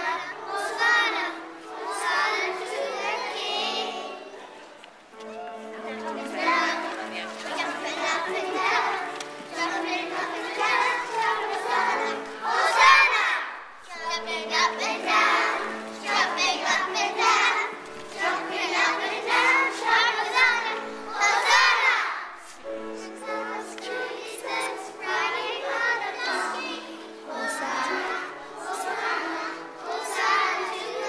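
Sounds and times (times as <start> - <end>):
children's choir singing: 0.0 - 31.0
instrumental accompaniment of held notes: 0.0 - 31.0.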